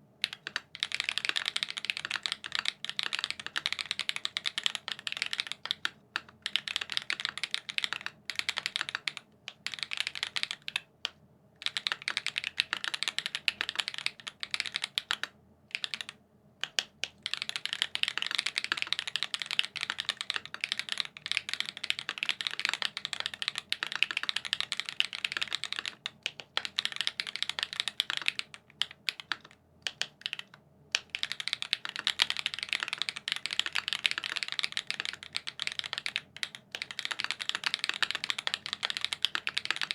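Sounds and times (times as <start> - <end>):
fast mechanical keyboard typing: 0.2 - 10.8, 11.6 - 39.9.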